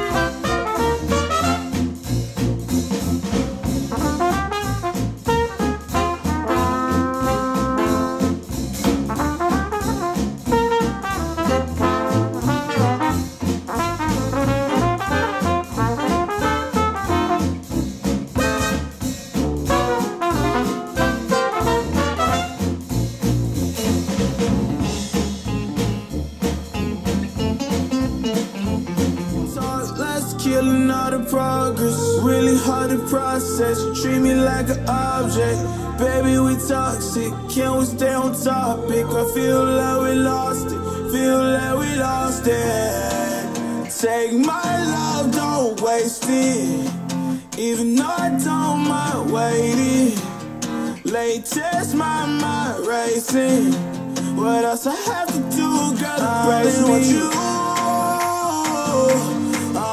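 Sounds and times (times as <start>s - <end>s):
brass jazz through speakers: 0.0s - 59.9s.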